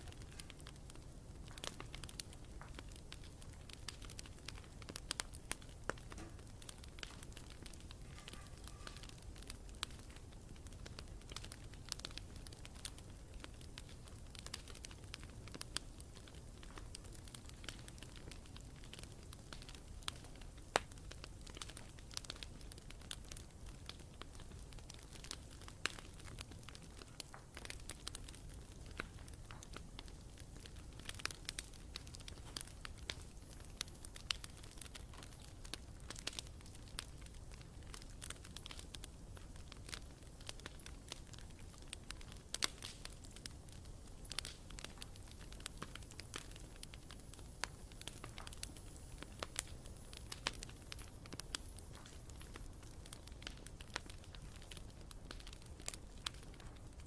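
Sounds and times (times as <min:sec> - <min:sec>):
campfire crackling: 0:00.0 - 0:57.0
low rumble of flame: 0:00.0 - 0:57.0.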